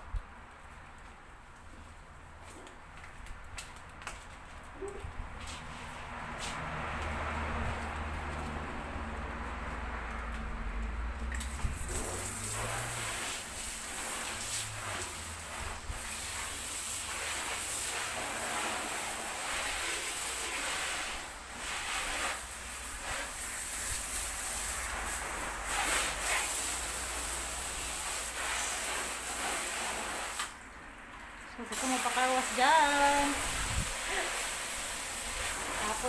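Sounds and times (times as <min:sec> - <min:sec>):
water spraying onto a car: 0:03.5 - 0:36.0.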